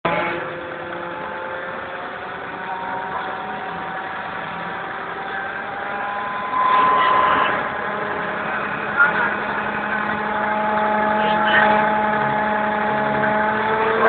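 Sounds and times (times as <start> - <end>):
crane engine humming: 0.0 - 14.0.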